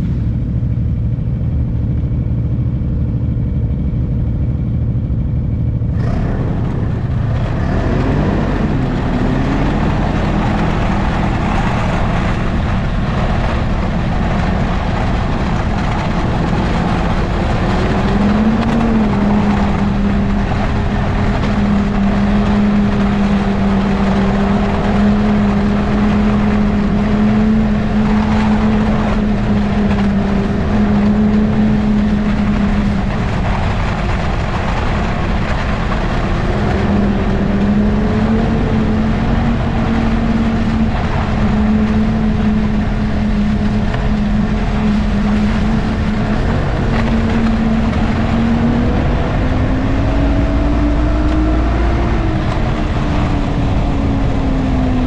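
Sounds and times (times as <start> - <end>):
snowmobile engine: 0.0 - 55.0.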